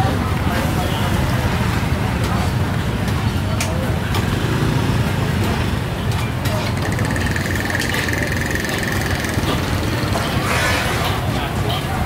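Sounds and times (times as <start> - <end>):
motorbike engine rumbling: 1.3 - 12.0.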